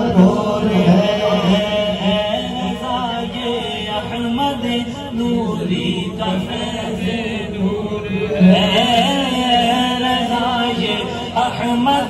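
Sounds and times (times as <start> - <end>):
low drone of background voices: 0.0 - 12.0
man chanting a song: 0.0 - 12.0.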